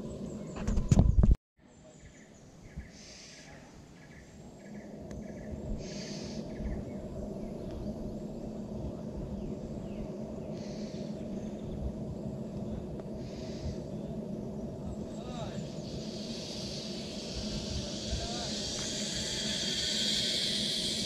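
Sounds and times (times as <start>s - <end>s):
high hissy insect calls: 1.8s - 21.0s
steady low rush: 4.1s - 21.0s.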